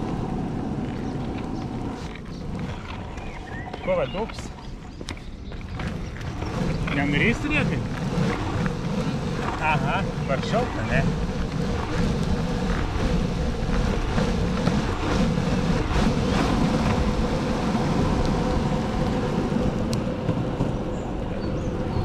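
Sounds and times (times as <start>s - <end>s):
longboard wheels rolling on pavement: 0.0s - 22.0s.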